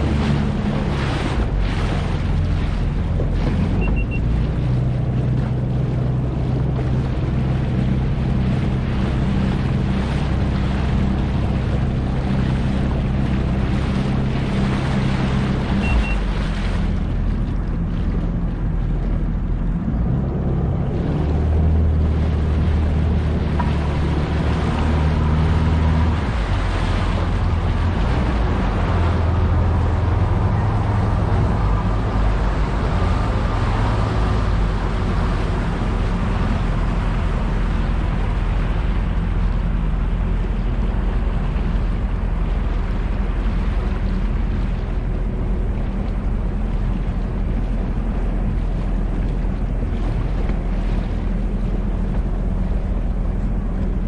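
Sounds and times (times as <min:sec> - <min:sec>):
jet ski engine running: 0:00.0 - 0:54.0
wind rushing over microphone: 0:00.0 - 0:54.0.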